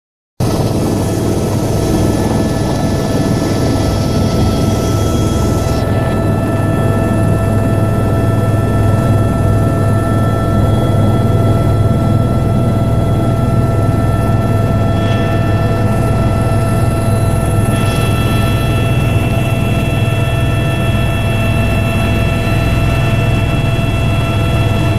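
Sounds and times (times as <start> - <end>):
helicopter rumble and turbine whine: 0.4 - 24.9.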